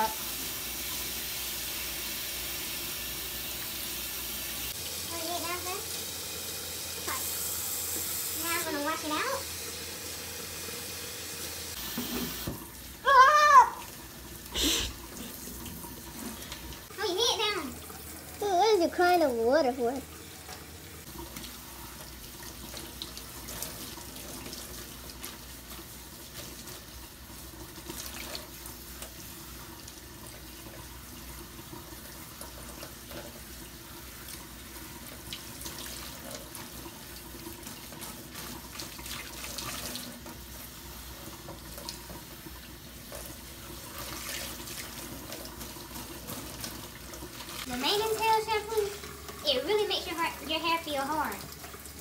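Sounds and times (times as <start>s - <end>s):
faucet running into steel sink: 0.0s - 52.0s.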